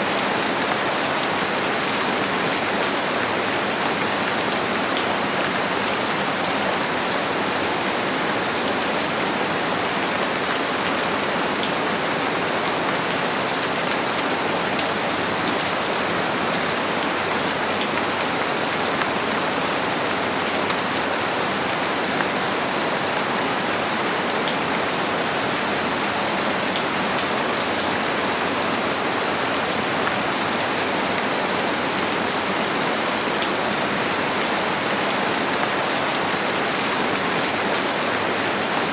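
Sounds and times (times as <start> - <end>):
rain pattering: 0.1 - 38.9.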